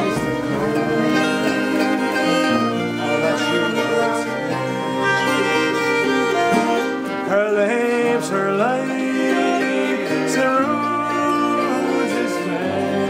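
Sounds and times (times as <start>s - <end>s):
fiddle melody: 0.0s - 13.0s
strummed mandolin and guitar: 0.0s - 13.0s.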